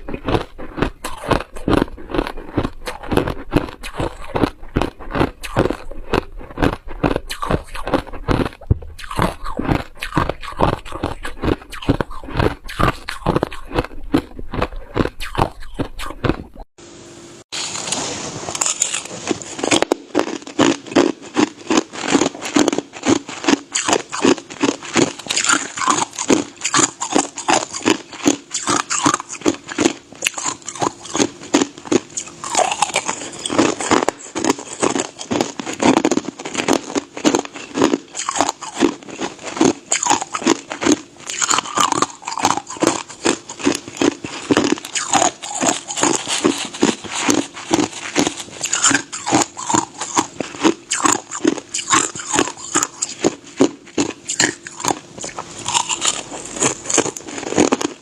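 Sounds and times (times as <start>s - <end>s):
person crunching ice: 0.0s - 16.5s, 17.6s - 58.0s.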